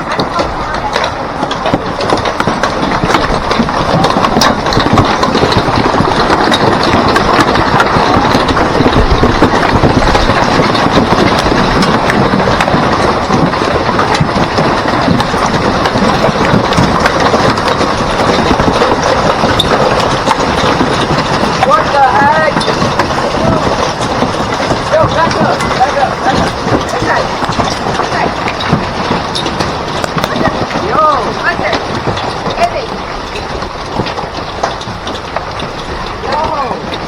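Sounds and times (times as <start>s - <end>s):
hail and heavy rain clattering: 0.0s - 37.0s.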